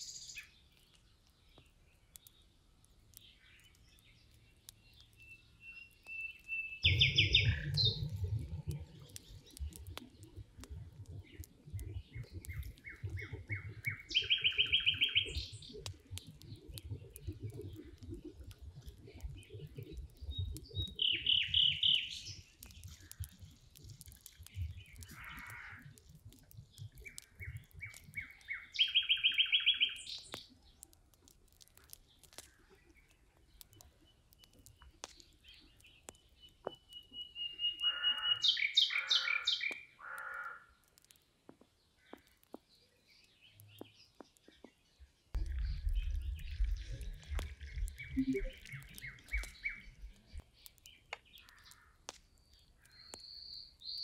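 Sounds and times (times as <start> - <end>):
songbird singing: 0.0 - 10.3, 11.2 - 23.4, 26.6 - 30.9, 32.0 - 54.0.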